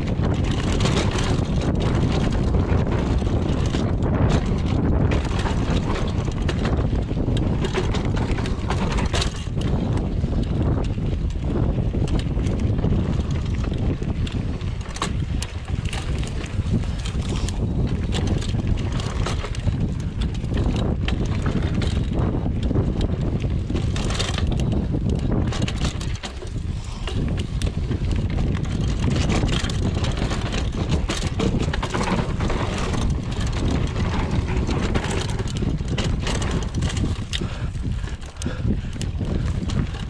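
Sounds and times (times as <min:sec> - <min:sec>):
bike clicks and rattles: 0:00.0 - 0:40.0
tyres rumbling on dirt: 0:00.0 - 0:40.0
wind noise on microphone: 0:00.0 - 0:40.0.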